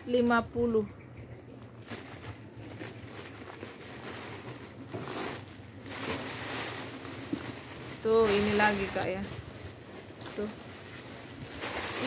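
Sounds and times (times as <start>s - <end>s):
handbags rustling and shuffling: 1.8s - 12.0s.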